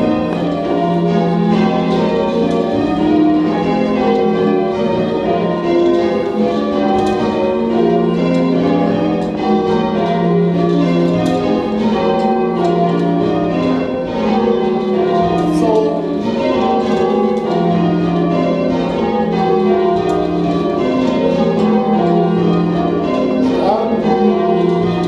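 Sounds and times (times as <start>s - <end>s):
church bells change ringing: 0.0s - 25.0s.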